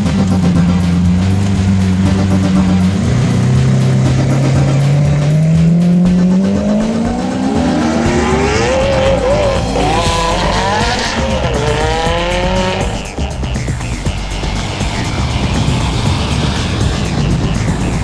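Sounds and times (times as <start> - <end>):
sports car accelerating hard: 0.0 - 18.0.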